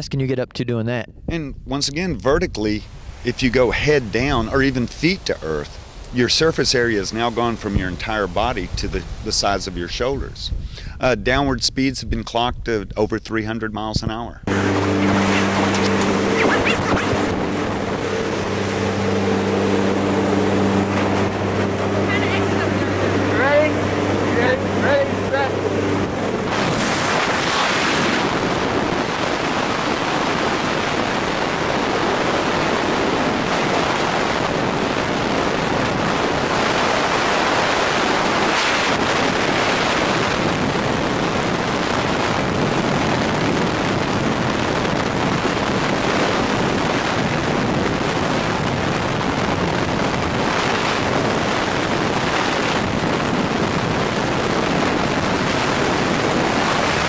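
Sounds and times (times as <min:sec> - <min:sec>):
wind rushing over microphone: 0:01.1 - 0:13.0, 0:13.9 - 0:57.0.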